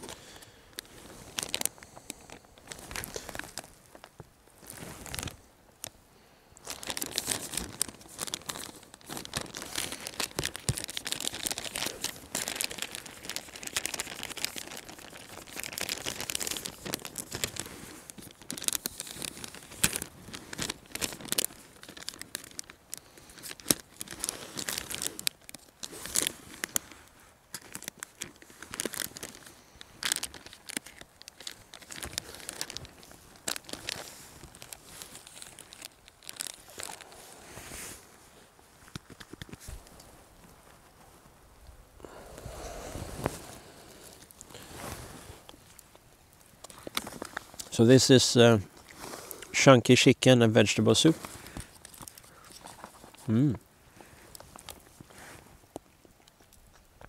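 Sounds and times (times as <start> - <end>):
packaging crinkling and tearing: 0.0 - 6.0, 6.6 - 37.8, 38.8 - 41.0, 42.0 - 50.0, 50.6 - 57.0.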